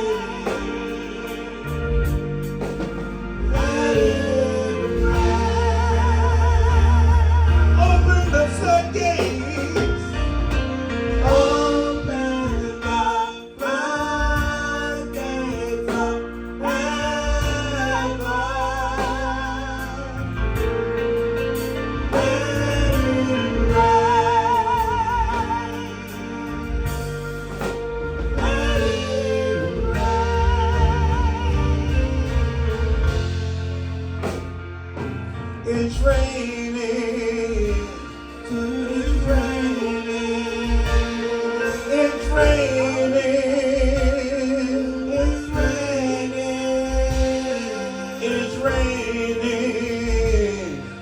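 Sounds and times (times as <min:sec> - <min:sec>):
band with steady bass: 0:00.0 - 0:51.0
singer holding notes with vibrato: 0:00.0 - 0:51.0.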